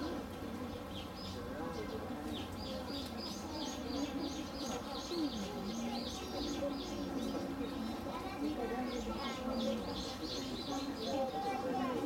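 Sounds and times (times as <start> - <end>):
people murmuring: 0.0 - 12.0
small birds chirping: 0.7 - 12.0.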